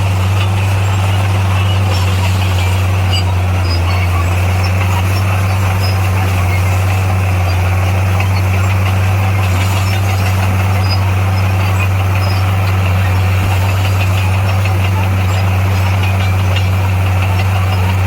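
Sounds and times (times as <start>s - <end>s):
heavy diesel engine humming: 0.0s - 18.0s.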